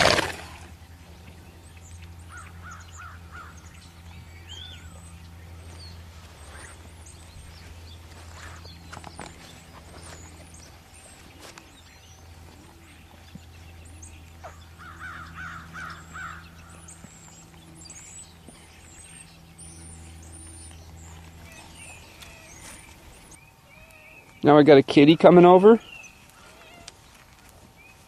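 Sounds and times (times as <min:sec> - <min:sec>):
birds calling and chirping: 0:00.0 - 0:28.0
steady low hum: 0:00.0 - 0:28.0.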